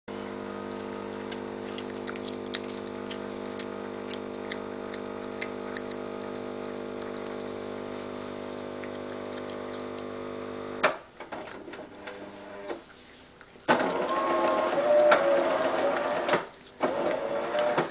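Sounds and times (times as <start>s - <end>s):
steady mechanical hum: 0.1s - 17.9s
cat gnawing on bone: 0.5s - 10.8s, 12.8s - 17.8s.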